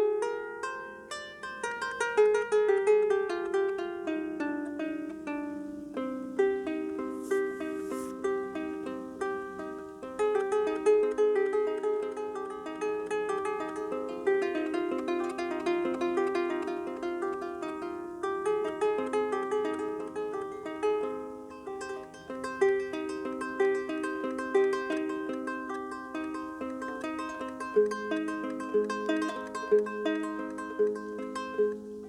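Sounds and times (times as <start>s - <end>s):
harp being plucked: 0.0s - 32.0s.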